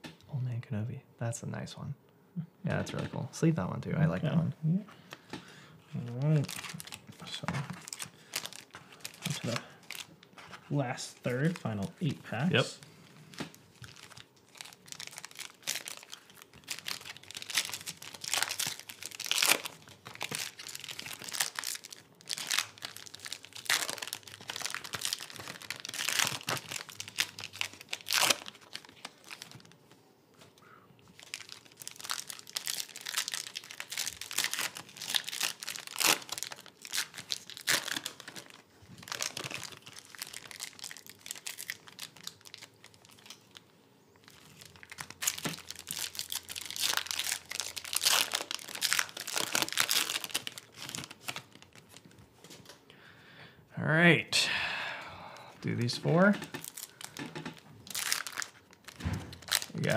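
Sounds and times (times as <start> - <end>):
card wrappers tearing and crinkling: 5.9 - 29.8, 31.1 - 52.6, 56.1 - 59.9.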